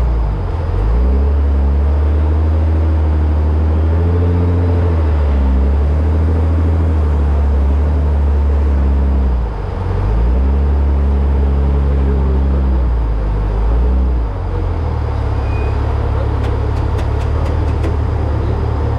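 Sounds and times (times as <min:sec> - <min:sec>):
truck engine running hard: 0:00.0 - 0:18.9.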